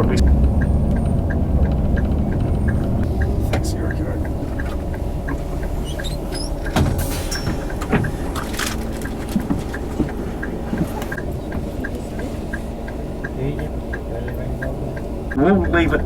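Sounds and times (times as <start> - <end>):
coach engine rumbling: 0.0 - 16.0
steady ticking: 0.0 - 16.0.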